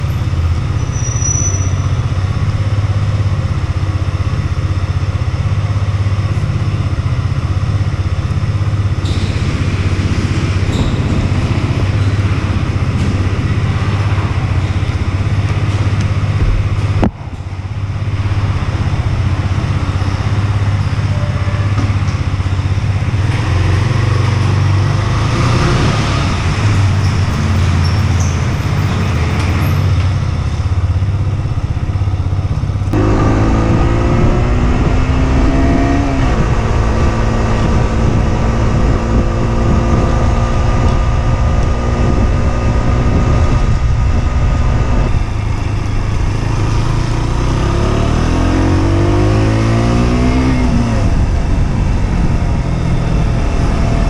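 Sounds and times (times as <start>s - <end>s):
motorcycle engine running: 0.0s - 25.3s, 26.2s - 54.0s.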